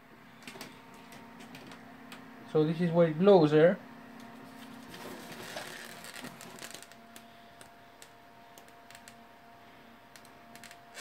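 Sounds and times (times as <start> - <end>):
computer fan whirring: 0.0 - 11.0.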